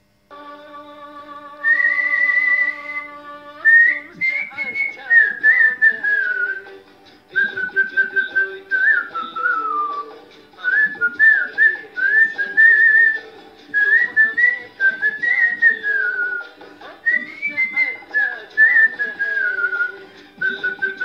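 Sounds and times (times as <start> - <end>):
karaoke backing track: 0.0 - 21.0
man whistling melody: 1.6 - 21.0.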